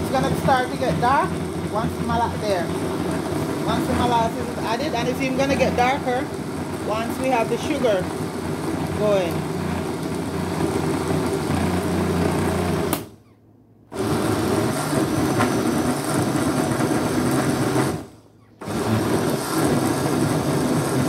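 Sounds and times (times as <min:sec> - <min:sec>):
electric blender running: 0:00.0 - 0:13.1, 0:13.9 - 0:21.0.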